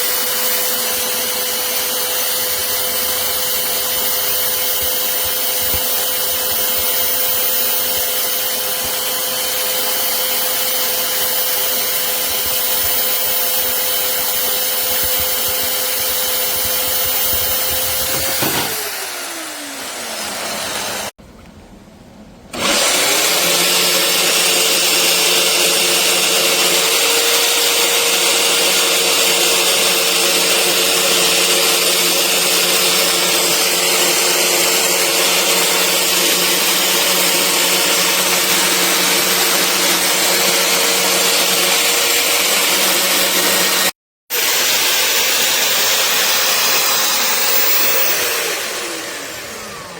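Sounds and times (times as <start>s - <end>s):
band saw motor whine: 0.0s - 21.1s, 28.7s - 49.9s.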